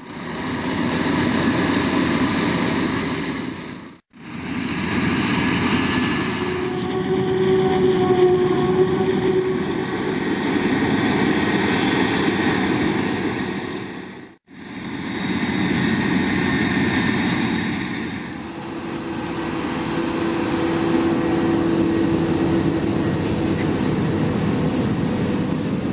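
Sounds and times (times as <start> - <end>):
farm machinery engines running: 0.0 - 25.9.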